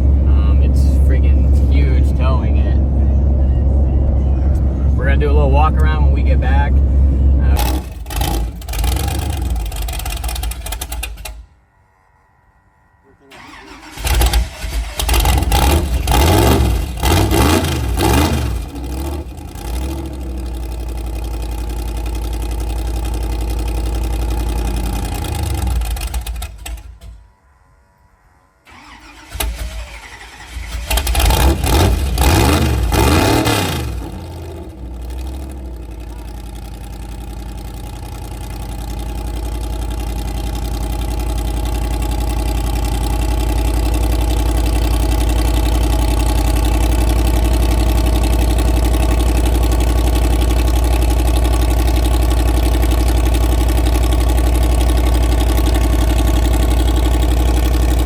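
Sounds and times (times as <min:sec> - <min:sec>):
truck engine cranking and idling: 0:00.0 - 0:12.1, 0:13.2 - 0:27.8, 0:28.6 - 0:58.0.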